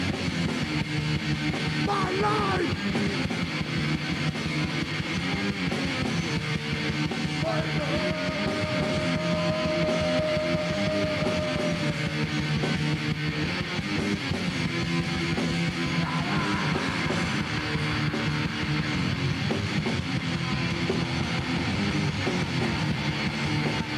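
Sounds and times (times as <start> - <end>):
bass and drums: 0.0 - 23.9
distorted electric guitar: 0.0 - 23.9.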